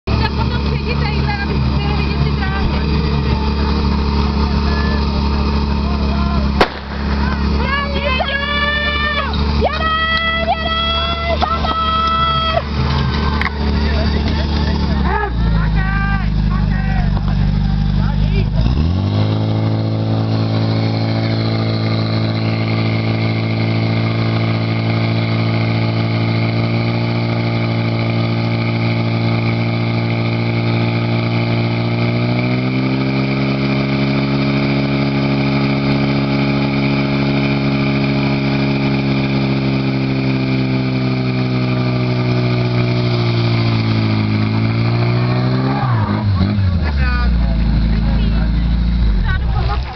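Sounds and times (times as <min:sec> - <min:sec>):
pump engine running at high revs: 0:00.0 - 0:49.9.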